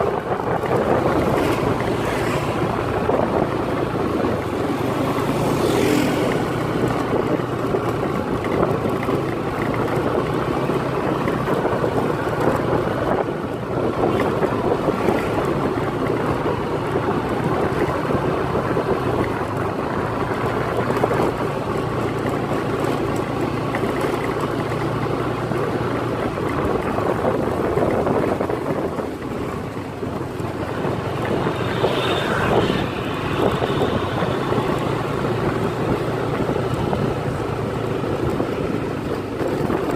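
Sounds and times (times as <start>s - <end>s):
vehicle engine hum: 0.0s - 39.9s
wind rushing over microphone: 0.0s - 39.9s.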